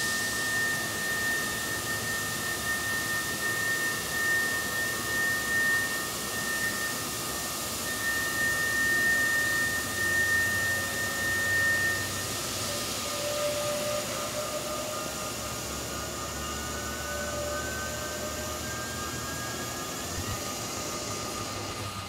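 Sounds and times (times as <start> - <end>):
high thin machine whine: 0.0 - 22.0
hiss of cutting and coolant spray: 0.0 - 22.0.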